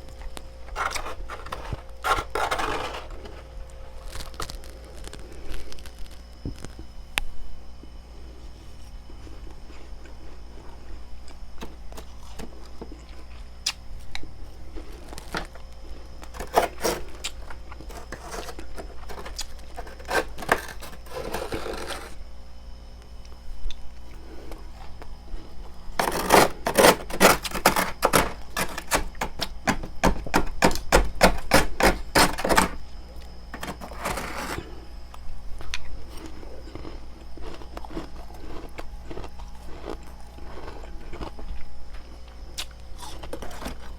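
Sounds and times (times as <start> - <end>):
ice crunching being chewed: 0.0 - 6.8, 8.4 - 22.2, 23.2 - 29.8, 31.4 - 43.9.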